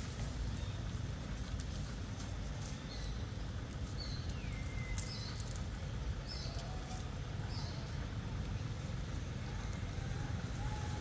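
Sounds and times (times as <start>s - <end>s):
low forest rumble: 0.0s - 11.0s.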